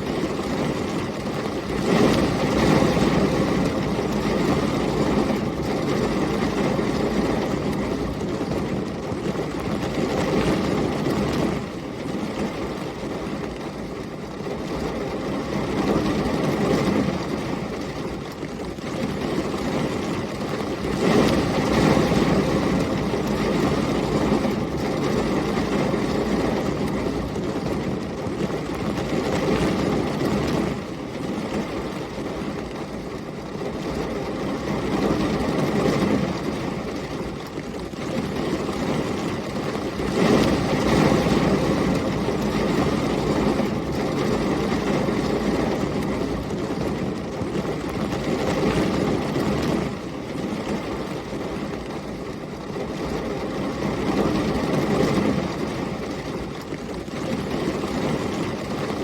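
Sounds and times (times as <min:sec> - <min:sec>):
heavy rain: 0:00.0 - 0:59.0
storm wind: 0:00.0 - 0:59.0.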